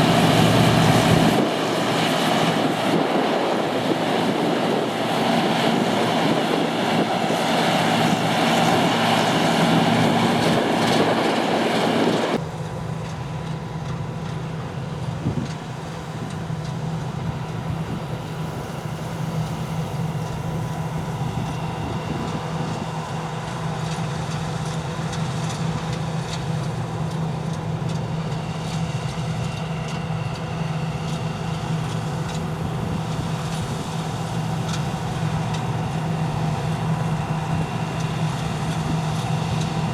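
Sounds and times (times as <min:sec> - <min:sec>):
diesel farm machinery droning: 0:00.0 - 0:39.9.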